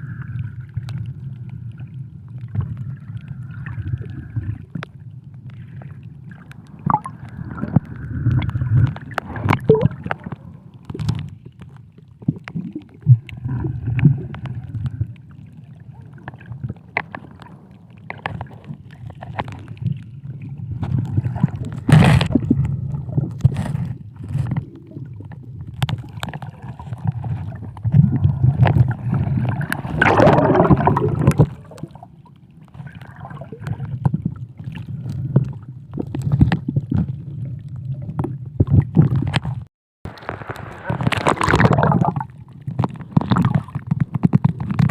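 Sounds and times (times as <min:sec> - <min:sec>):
bubbles gurgling: 0:00.0 - 0:11.4, 0:12.2 - 0:23.4, 0:24.0 - 0:39.3, 0:40.1 - 0:44.9
low underwater rumble: 0:00.0 - 0:44.9
underwater clicks: 0:06.4 - 0:15.2, 0:16.2 - 0:20.1, 0:20.8 - 0:32.0, 0:32.8 - 0:44.9.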